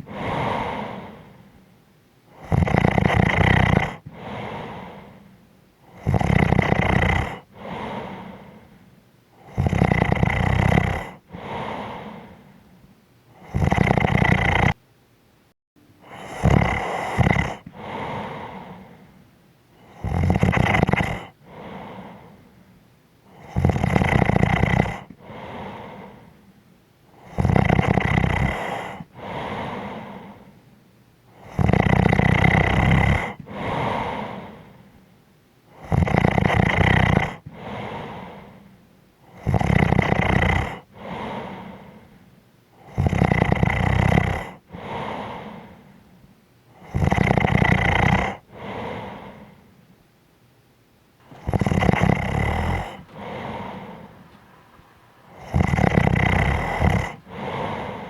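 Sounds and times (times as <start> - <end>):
person snoring: 0.0 - 1.6, 2.3 - 8.8, 9.4 - 12.7, 13.3 - 14.8, 16.0 - 22.5, 23.3 - 26.4, 27.1 - 30.6, 31.3 - 35.0, 35.7 - 42.2, 42.8 - 46.1, 46.7 - 49.7, 51.2 - 58.0.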